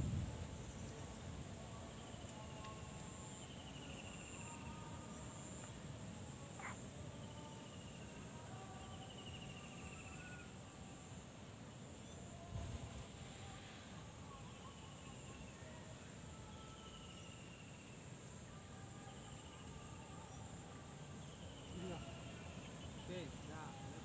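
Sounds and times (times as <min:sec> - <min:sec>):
insect trills: 0:00.0 - 0:24.0
insects droning: 0:00.0 - 0:24.0.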